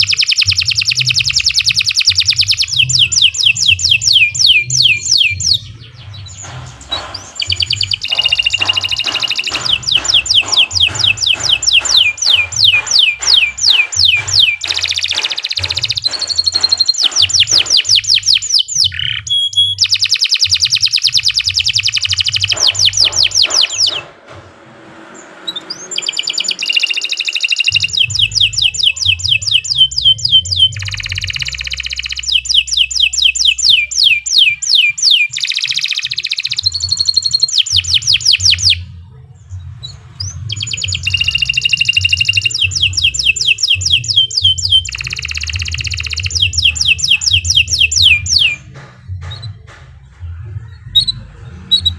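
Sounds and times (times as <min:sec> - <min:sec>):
canary singing trills: 0:00.0 - 0:24.1, 0:25.4 - 0:51.9.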